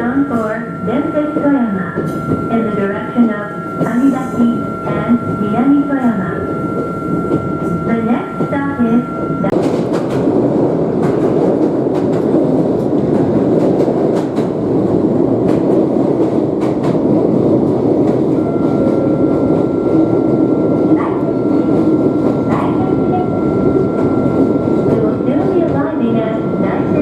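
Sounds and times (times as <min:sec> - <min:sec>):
electric train rumbling on track: 0:00.0 - 0:27.0.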